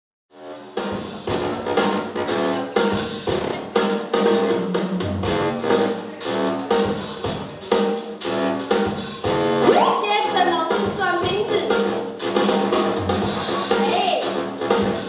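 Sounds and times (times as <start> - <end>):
hip-hop music over speakers: 0.3 - 15.0.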